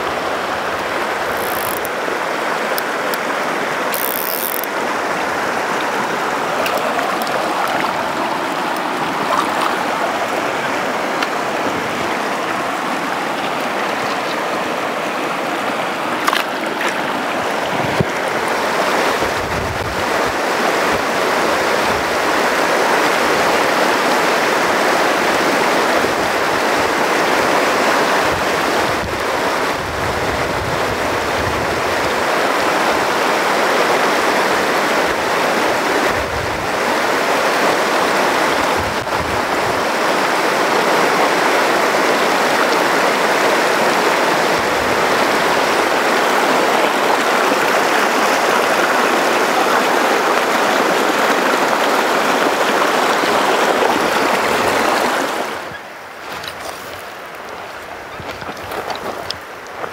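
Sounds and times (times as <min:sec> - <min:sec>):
river rushing over boulders: 0:00.0 - 0:59.9.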